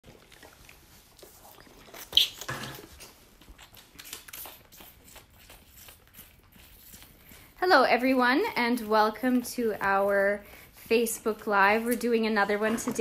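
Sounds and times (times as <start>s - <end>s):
calf sucking and slurping: 0.0s - 13.0s.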